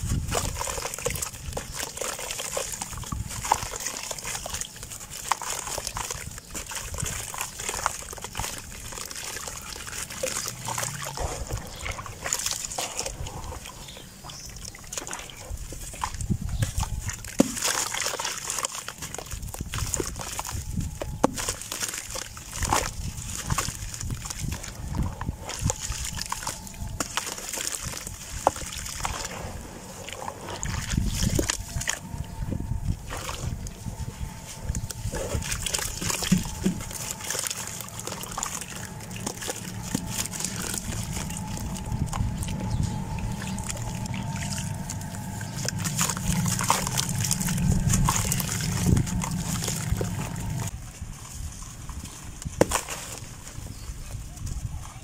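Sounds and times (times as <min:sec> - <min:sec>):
steady low rumble: 0:00.0 - 0:17.4, 0:22.3 - 0:52.6
dry earth crumbling: 0:00.0 - 0:55.0
muddy water splashing: 0:00.0 - 0:55.0.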